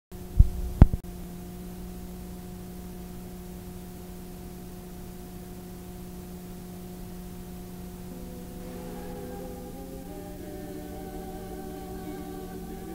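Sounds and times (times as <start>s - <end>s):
electrical hum: 0.2s - 12.9s
tape hiss: 0.2s - 12.9s.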